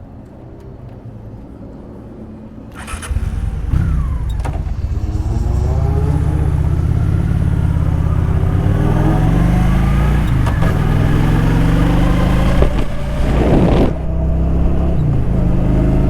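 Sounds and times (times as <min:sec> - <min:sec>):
vehicle engine accelerating: 0:02.7 - 0:16.0.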